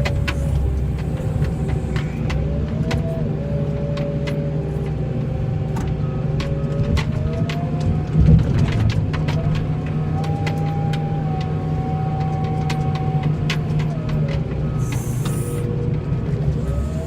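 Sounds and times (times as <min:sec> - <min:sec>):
snowplow engine running: 0:00.0 - 0:17.0.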